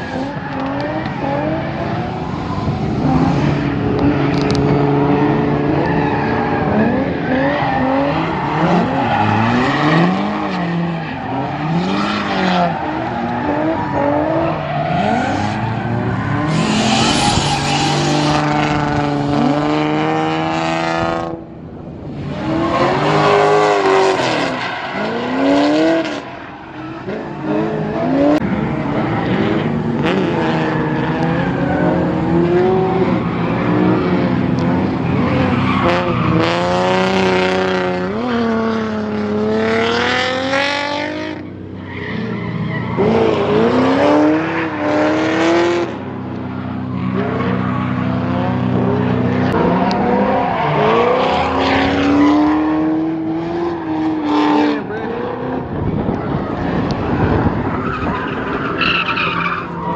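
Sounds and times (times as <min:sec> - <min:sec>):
car engines revving hard: 0:00.0 - 0:59.9.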